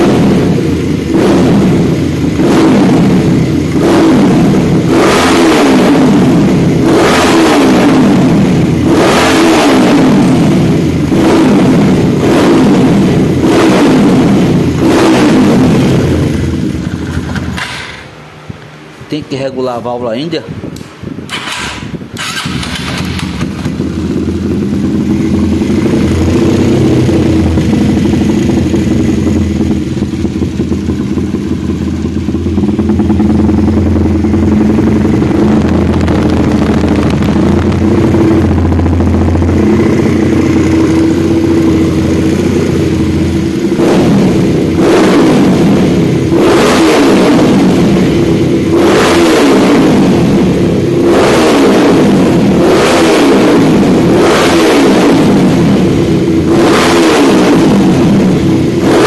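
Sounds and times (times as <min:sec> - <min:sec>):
motorcycle engine idling and revving: 0:00.0 - 0:19.1, 0:20.5 - 0:59.0.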